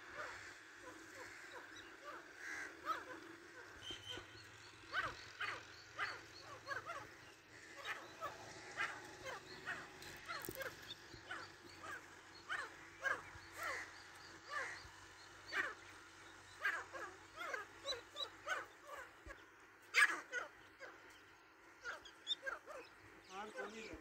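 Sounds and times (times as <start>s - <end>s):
birds chirping calls: 0.0s - 24.0s.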